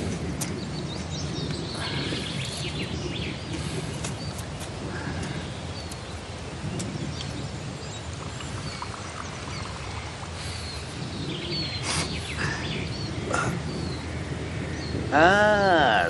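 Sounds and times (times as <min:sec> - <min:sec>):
steady low rumble: 0:00.0 - 0:15.3
small birds chirping: 0:00.0 - 0:16.0.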